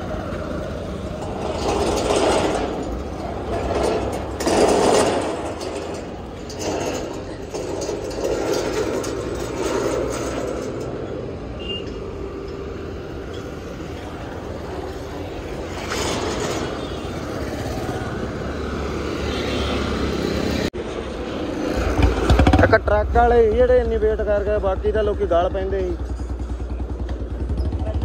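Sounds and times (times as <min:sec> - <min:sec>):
motorcycles and scooters passing: 0:00.0 - 0:05.7, 0:06.6 - 0:28.0.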